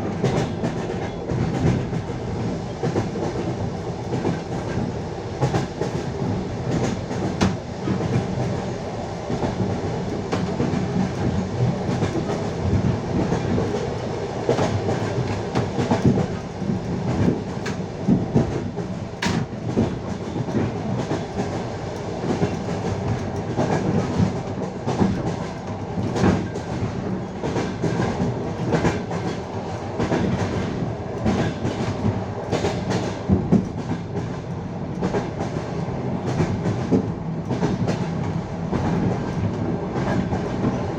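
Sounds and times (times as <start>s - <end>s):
train wheels clacking over rail joints: 0.0s - 2.2s, 2.8s - 8.7s, 9.3s - 40.9s
rumble of train carriages: 0.0s - 40.9s.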